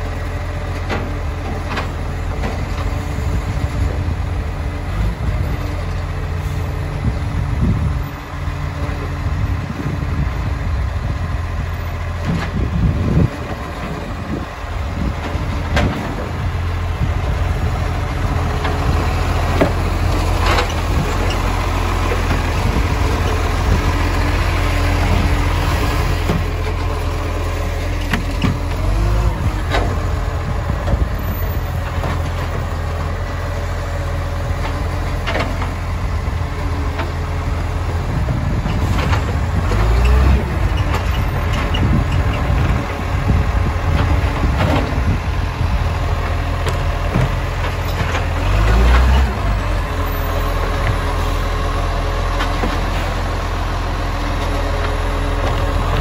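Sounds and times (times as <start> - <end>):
garbage truck engine running: 0.0 - 56.0
hydraulic arm lifting bins: 8.7 - 56.0.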